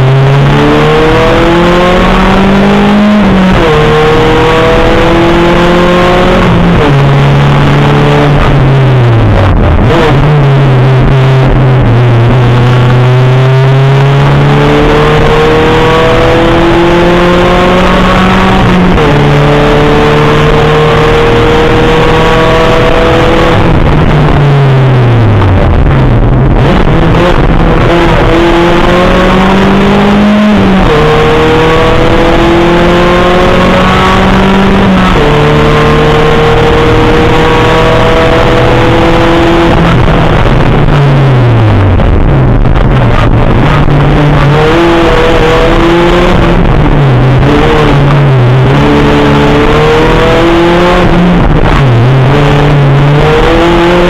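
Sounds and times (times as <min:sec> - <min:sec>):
race car engine revving: 0:00.0 - 0:54.0
road and wind rush: 0:00.0 - 0:54.0.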